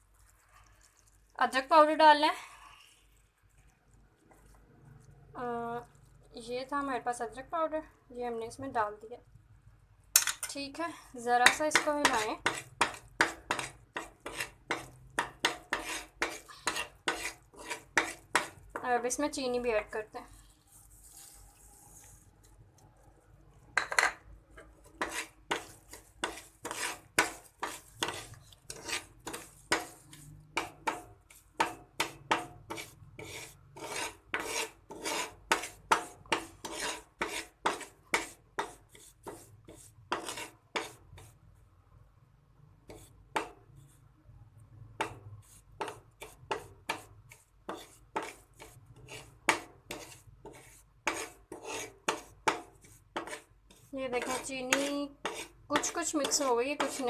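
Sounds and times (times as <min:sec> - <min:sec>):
spoon scraping and stirring in a pan: 0:00.0 - 0:07.4, 0:09.8 - 0:41.7, 0:42.8 - 0:57.0.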